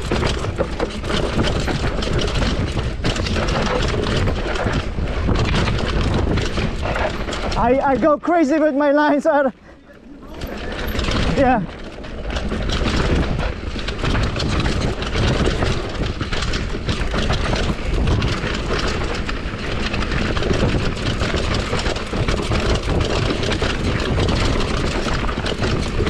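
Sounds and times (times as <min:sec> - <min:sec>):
bike rattling over rough ground: 0:00.0 - 0:26.0
tyres on dirt: 0:00.0 - 0:26.0
wind rumbling on microphone: 0:00.0 - 0:26.0.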